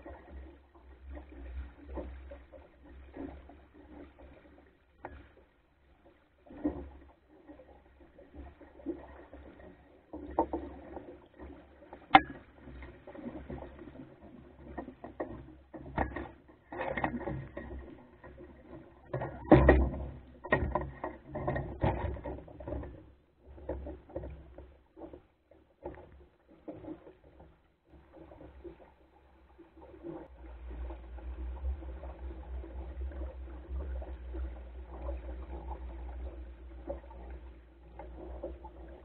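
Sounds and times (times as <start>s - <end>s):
boat knocks and clunks: 0.0s - 39.0s
water slapping against hull: 0.0s - 39.0s.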